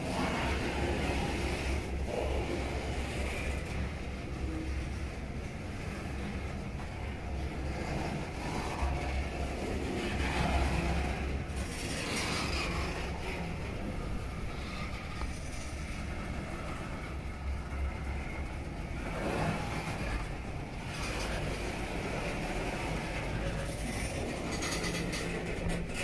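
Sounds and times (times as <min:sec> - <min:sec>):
freight train wheels rumbling on rails: 0:00.0 - 0:26.0.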